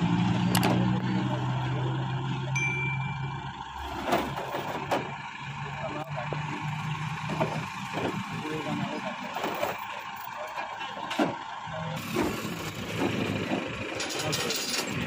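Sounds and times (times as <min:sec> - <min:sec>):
tow truck engine running: 0:00.0 - 0:15.0.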